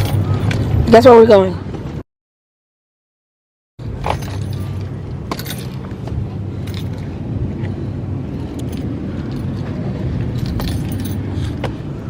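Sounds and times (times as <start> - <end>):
car road noise rumble: 0.0 - 2.0, 3.8 - 12.0.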